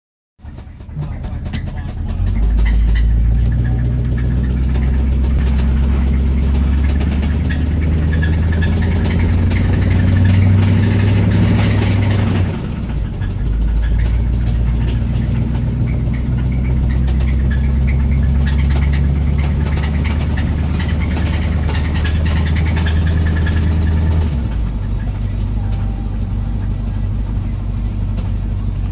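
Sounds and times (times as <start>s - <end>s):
pickup engine running with knock: 0.4s - 28.9s.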